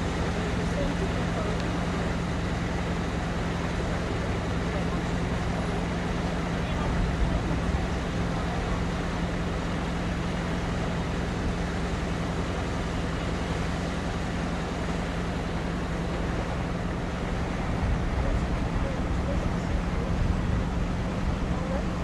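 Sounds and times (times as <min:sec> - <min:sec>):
boat engine droning: 0:00.0 - 0:22.0
rushing water noise: 0:00.0 - 0:22.0.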